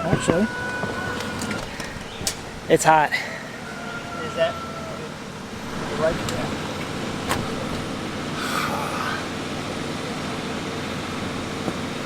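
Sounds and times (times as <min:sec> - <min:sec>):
low mechanical rumble and hum: 0:00.0 - 0:12.0.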